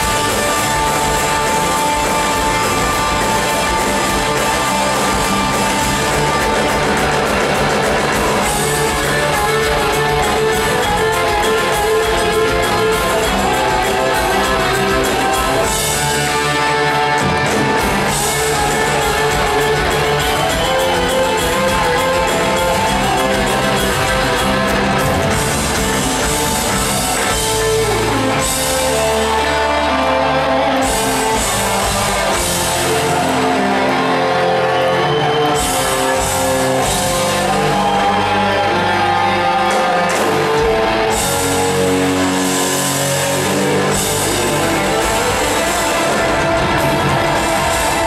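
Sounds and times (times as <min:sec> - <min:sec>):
bass guitar: 0:00.0 - 0:48.0
drum kit: 0:00.0 - 0:48.0
electric guitar lead: 0:00.0 - 0:48.0.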